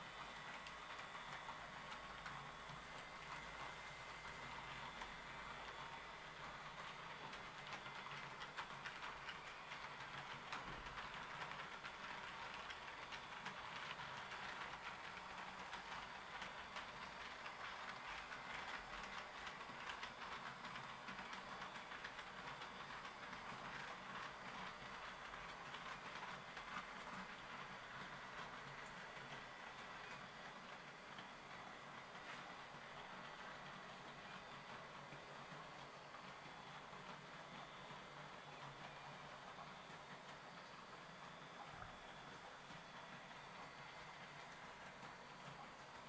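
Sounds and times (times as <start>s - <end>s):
model train rolling on track: 0.0s - 46.0s
thin steady whine: 0.0s - 46.0s
wheels clicking on rails: 0.0s - 46.0s.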